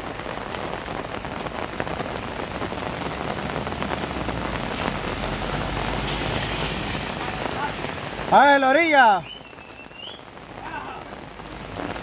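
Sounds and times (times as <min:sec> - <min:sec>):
heavy rain on road: 0:00.0 - 0:12.0.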